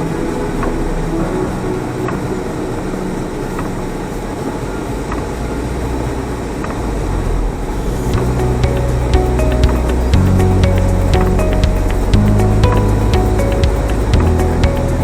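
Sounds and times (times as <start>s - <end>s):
background music: 0.0s - 5.2s, 7.8s - 15.0s.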